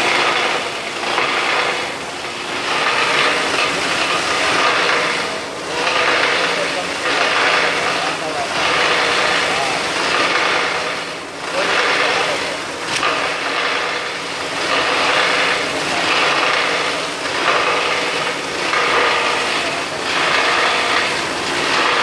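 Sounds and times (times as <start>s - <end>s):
plastic grinder shredding: 0.0s - 22.0s.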